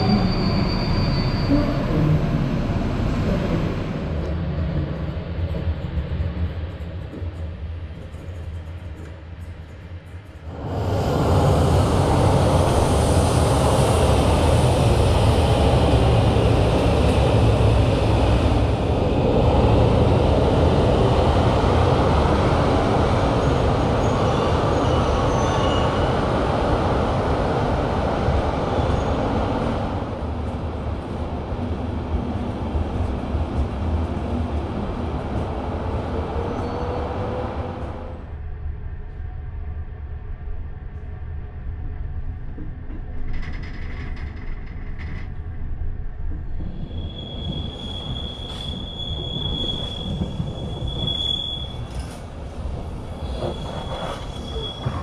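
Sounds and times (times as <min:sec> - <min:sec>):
train wheels on rail: 0:00.0 - 0:38.3, 0:42.4 - 0:55.0.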